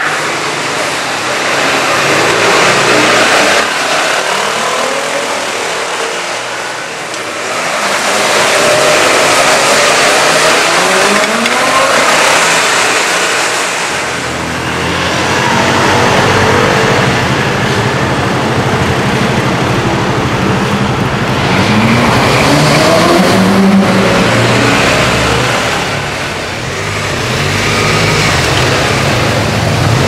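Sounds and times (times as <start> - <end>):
sports car engine revving: 0.0 - 30.0.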